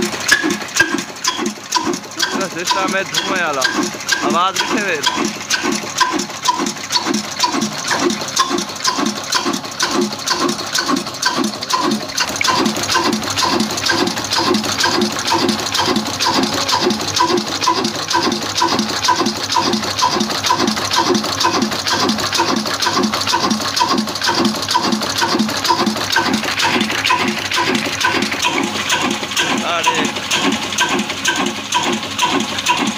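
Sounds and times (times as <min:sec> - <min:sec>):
diesel engine exhaust beating: 0:00.0 - 0:32.9.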